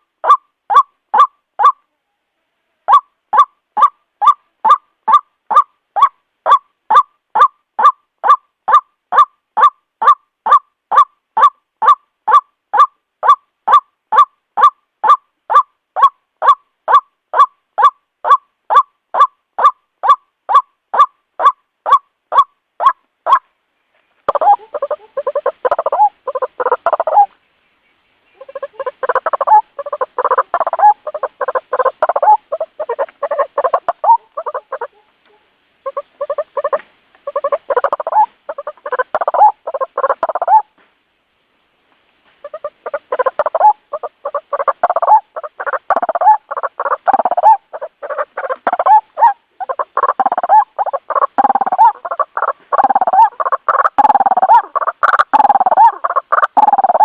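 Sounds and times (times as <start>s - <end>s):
waterhen rapid croaking calls: 0.0s - 1.8s, 2.8s - 23.5s, 24.2s - 27.4s, 28.2s - 40.8s, 42.4s - 57.0s.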